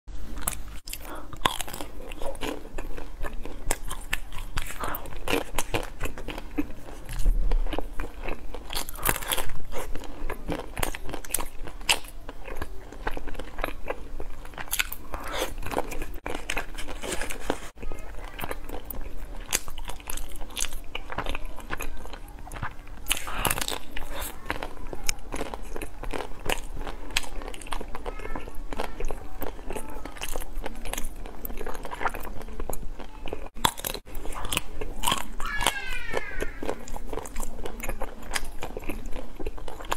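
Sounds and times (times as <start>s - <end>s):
crunching frozen ice cream coating: 0.2s - 39.9s
wet chewing: 0.2s - 39.9s.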